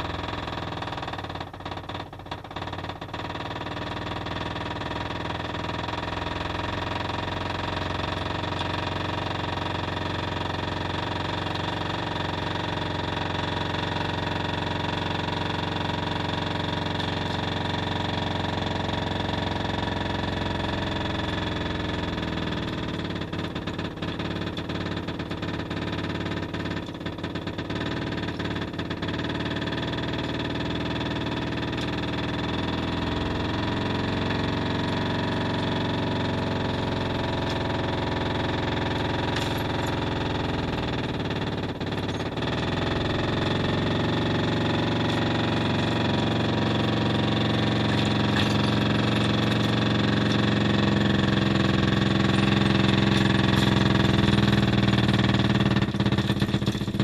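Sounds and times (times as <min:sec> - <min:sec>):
drilling rig droning: 0:03.6 - 0:57.0.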